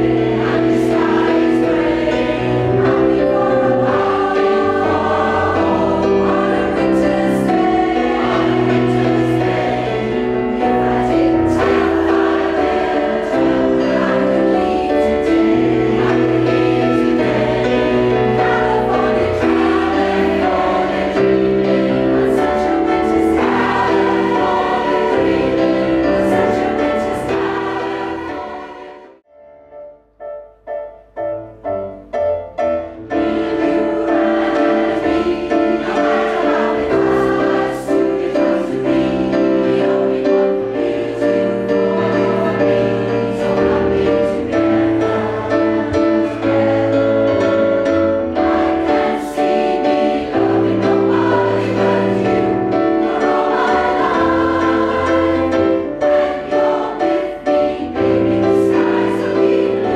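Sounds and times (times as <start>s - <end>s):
choir singing in harmony: 0.0s - 29.2s, 32.8s - 59.9s.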